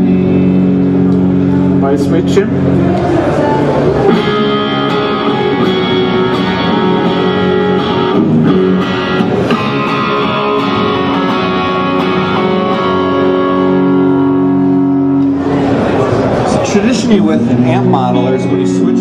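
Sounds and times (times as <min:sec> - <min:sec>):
electric guitar strumming chords: 0:00.0 - 0:19.0.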